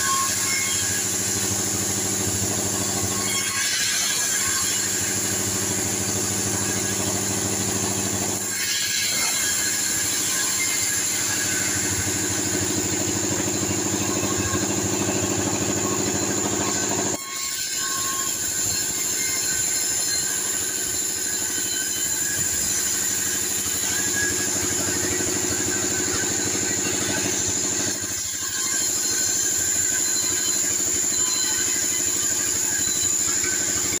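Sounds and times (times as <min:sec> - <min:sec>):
bandsaw sawing log: 0:00.0 - 0:34.0.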